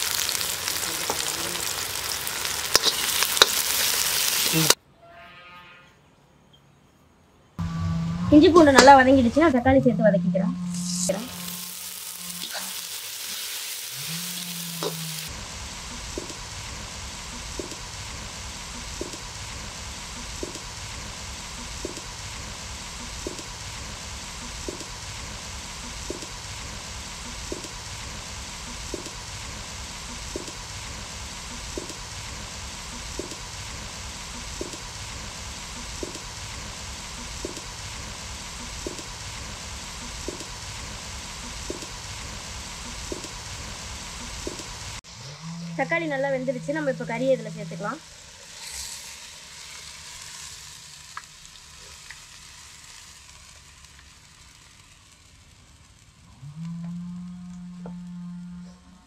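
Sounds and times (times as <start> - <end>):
tomatoes sizzling in hot oil: 0.0 - 4.8, 10.5 - 56.7.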